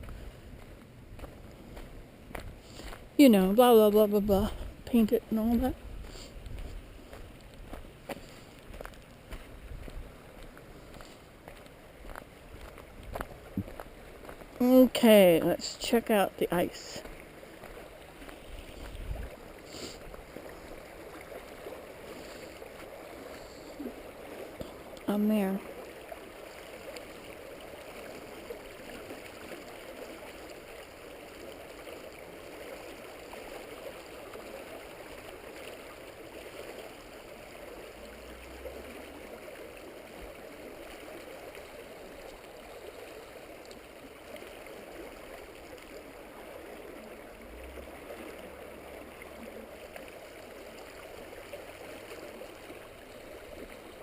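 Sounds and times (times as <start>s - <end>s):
stream babbling: 0.0s - 54.0s.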